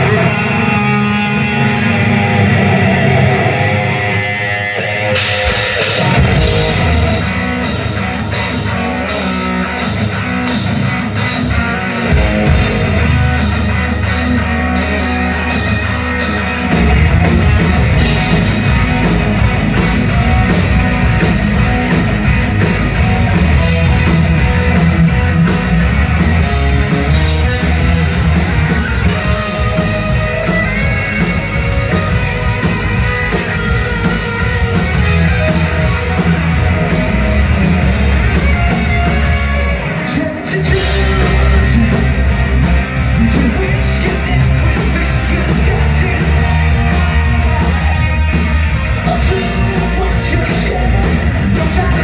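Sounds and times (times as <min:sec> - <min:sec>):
bass guitar: 0:00.0 - 0:52.0
electric guitars: 0:00.0 - 0:52.0
drum kit with cymbals: 0:05.2 - 0:39.6, 0:40.6 - 0:52.0.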